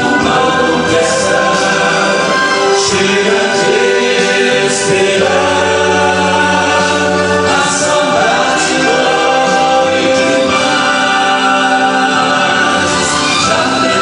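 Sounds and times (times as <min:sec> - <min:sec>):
male vocal group singing gospel: 0:00.0 - 0:14.0.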